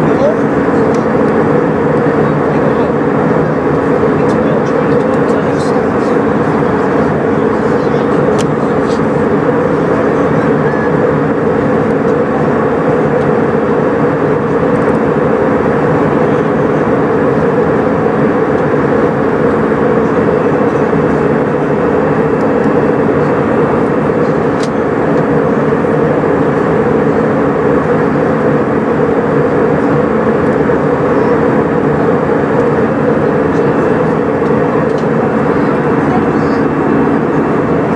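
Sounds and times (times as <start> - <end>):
airplane cabin engine drone: 0.0 - 37.9.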